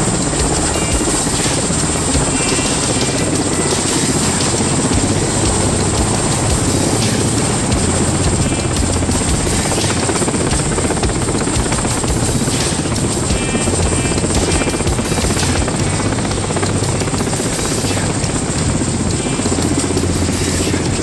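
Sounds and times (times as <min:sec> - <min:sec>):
helicopter rotor chop: 0:00.0 - 0:21.0
turbine engine noise: 0:00.0 - 0:21.0.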